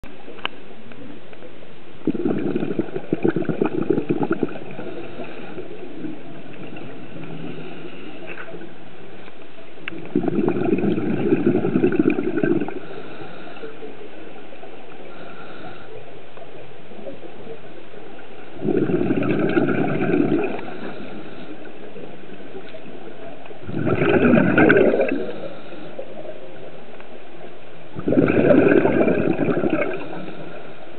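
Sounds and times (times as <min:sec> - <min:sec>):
low steady hiss: 0:00.0 - 0:30.9
exhaled bubbles gurgling: 0:02.0 - 0:30.9.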